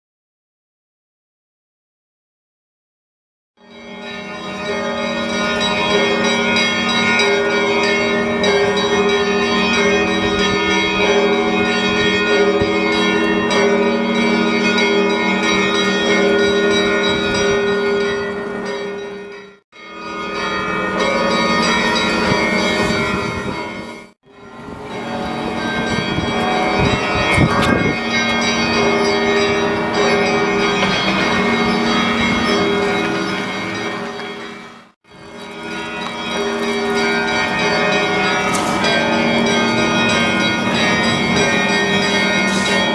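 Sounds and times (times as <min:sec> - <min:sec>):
church bells ringing: 0:03.6 - 0:42.9.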